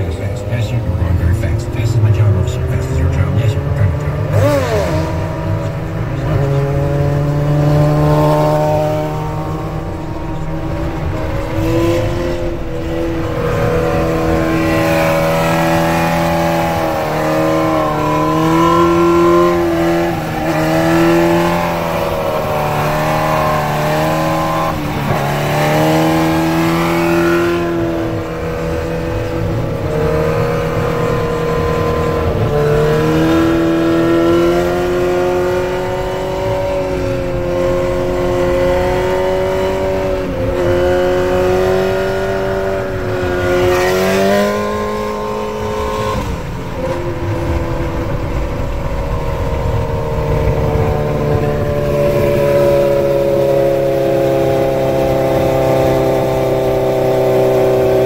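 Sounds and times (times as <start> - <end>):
motorcycle engine revving: 0.0 - 58.0
road and wind noise: 0.0 - 58.0.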